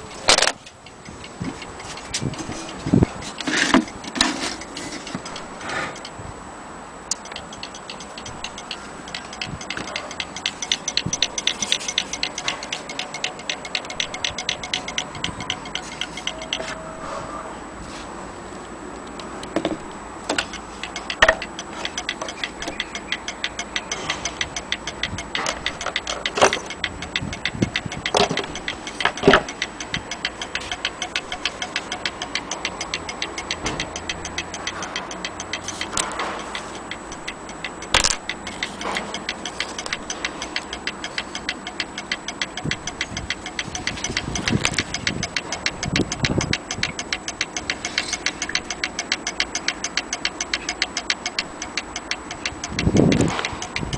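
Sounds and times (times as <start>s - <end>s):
clock ticking: 0.0s - 6.2s, 7.1s - 17.1s, 19.4s - 53.9s.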